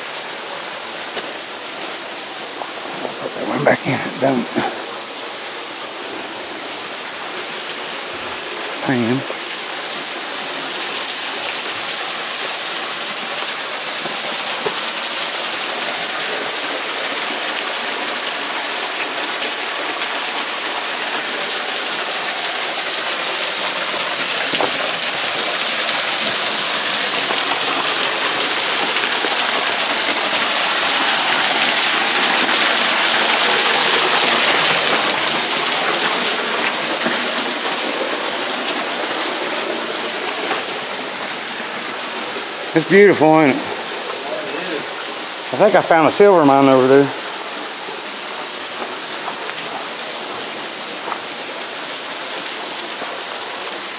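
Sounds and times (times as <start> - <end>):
waterfall splashing onto rock: 0.0 - 53.9.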